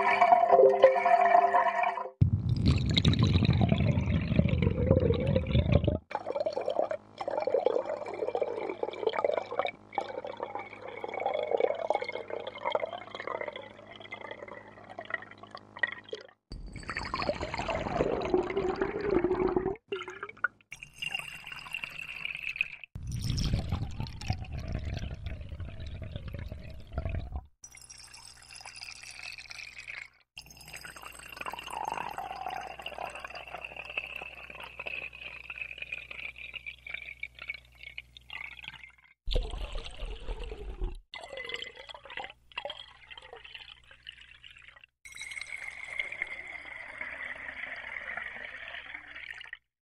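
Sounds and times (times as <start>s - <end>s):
water pouring into a glass: 0.0s - 49.6s.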